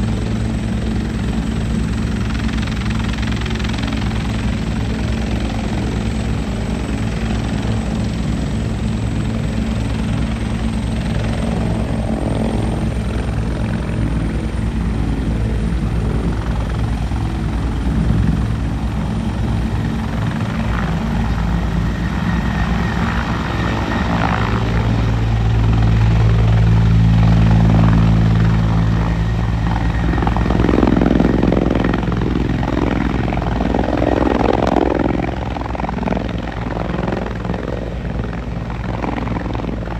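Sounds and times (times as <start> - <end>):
helicopter rotor beating: 0.0 - 39.9
turbine whine: 0.0 - 39.9.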